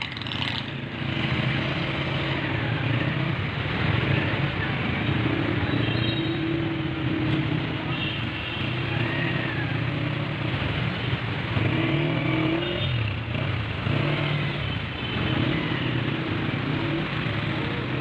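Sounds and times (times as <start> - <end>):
car engines revving: 0.0 - 5.7, 8.8 - 18.0
road traffic: 0.0 - 18.0.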